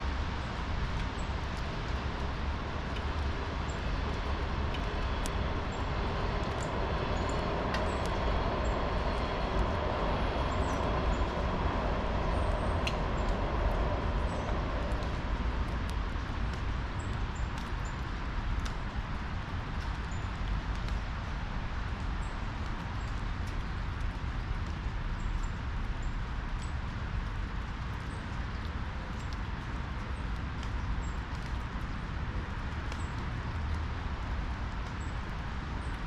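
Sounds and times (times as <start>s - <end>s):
steady rumbling noise: 0.0s - 36.0s.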